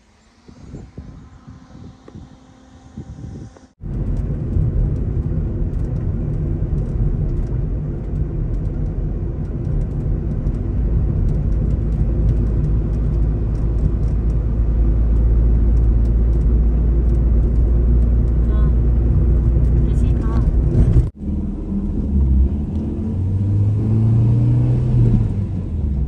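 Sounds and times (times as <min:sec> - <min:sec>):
vehicle engine and road rumble: 0:00.0 - 0:26.0.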